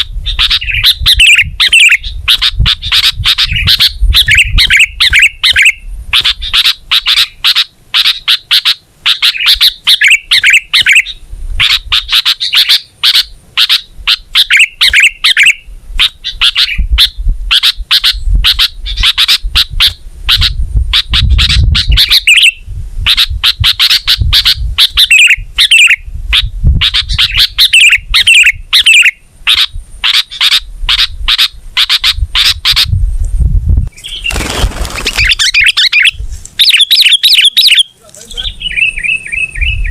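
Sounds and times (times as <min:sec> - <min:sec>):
bird singing rapid chirps: 0:00.2 - 0:33.0, 0:35.0 - 0:39.9.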